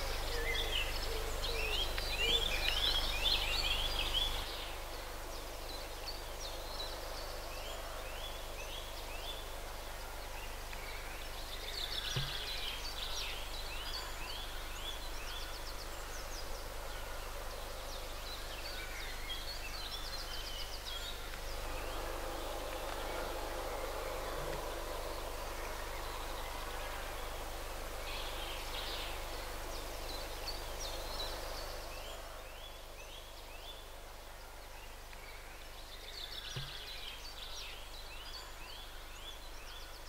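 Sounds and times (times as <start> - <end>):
small birds singing: 0.0 - 40.0
steady low hum: 0.0 - 40.0.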